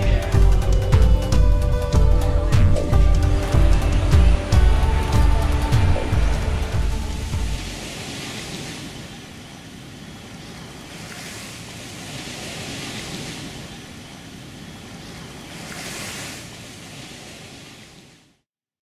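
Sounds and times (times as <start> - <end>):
small ocean waves washing ashore: 2.8 - 18.4.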